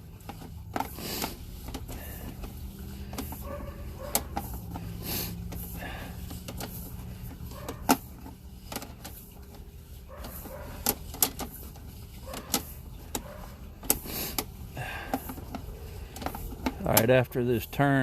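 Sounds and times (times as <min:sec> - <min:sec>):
cable clicks and knocks: 0:00.0 - 0:04.9, 0:05.5 - 0:17.2.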